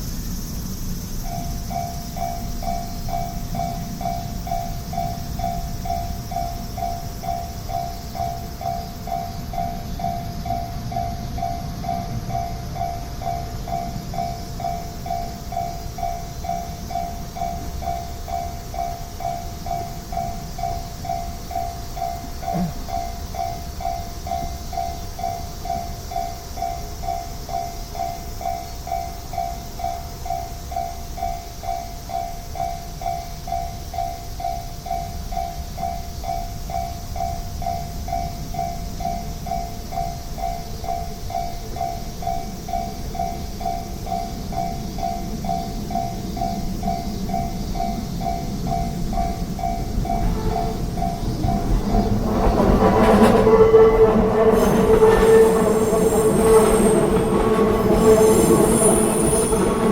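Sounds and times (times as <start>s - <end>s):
approaching train rumble: 0.0s - 59.9s
railroad crossing bell ringing: 1.0s - 59.9s.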